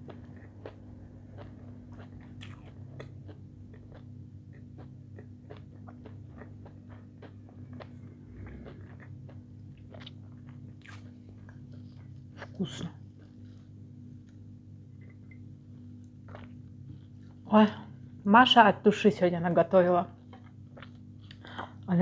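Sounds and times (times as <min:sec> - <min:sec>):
chewing food: 0:00.0 - 0:17.5, 0:20.2 - 0:21.8
steady low hum: 0:00.0 - 0:22.0.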